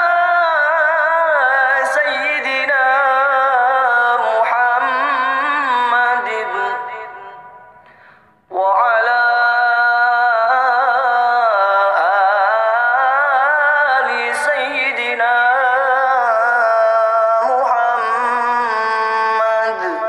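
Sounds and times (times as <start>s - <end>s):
person singing long held notes: 0.9s - 20.0s.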